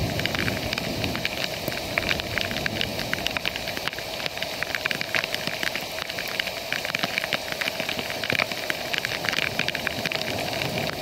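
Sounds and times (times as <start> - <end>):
heavy rain falling: 0.0 - 11.0
rain drops ticking close by: 0.0 - 11.0.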